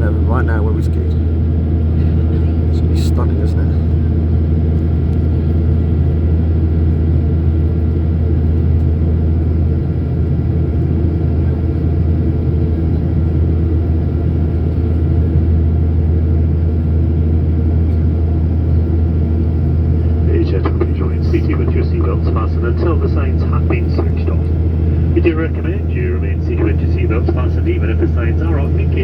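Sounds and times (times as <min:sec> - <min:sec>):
airliner cabin engine drone: 0:00.0 - 0:29.0.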